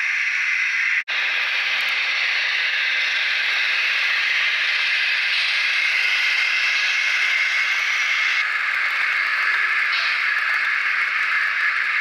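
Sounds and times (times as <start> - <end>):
model train running sound hiss: 0.0 - 12.0
model train wheel noise: 0.0 - 12.0.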